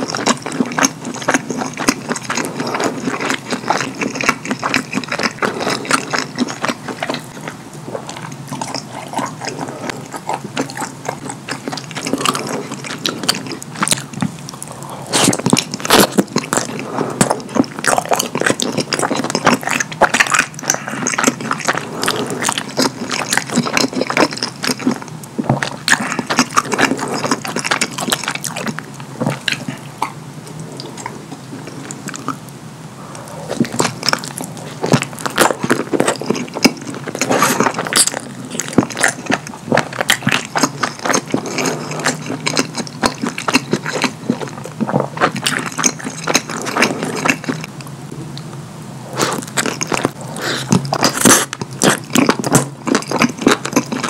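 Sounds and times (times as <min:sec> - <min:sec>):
person chewing food: 0:00.0 - 0:47.9, 0:49.1 - 0:54.0.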